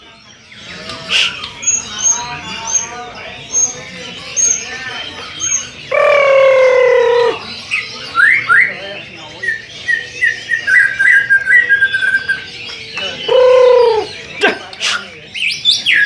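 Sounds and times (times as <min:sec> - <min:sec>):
songbird singing whistles: 0:00.8 - 0:08.8, 0:09.4 - 0:16.0.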